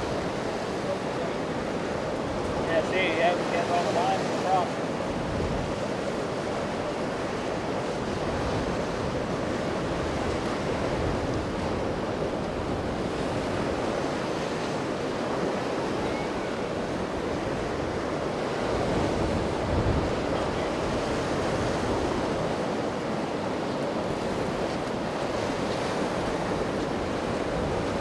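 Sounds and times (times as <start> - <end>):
wind buffeting microphone: 0.0 - 4.2, 4.8 - 28.0
surf and rushing water: 0.0 - 28.0.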